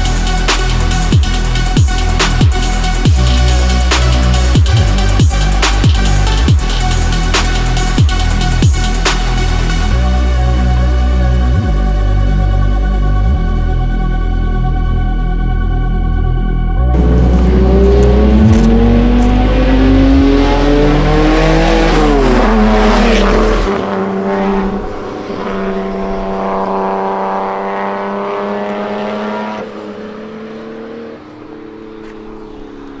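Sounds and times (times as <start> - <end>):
car engines accelerating: 0.0 - 13.6, 16.8 - 33.0.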